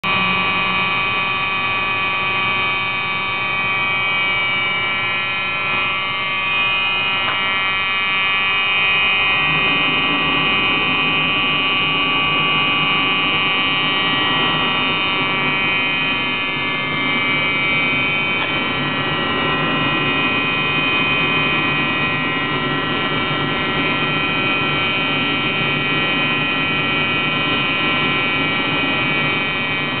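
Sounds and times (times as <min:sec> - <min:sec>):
fire alarm buzzing tone: 0:00.0 - 0:30.0.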